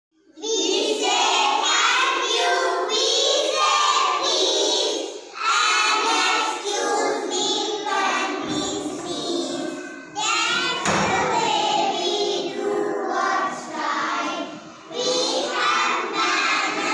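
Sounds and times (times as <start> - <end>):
children singing in unison: 0.3 - 16.9.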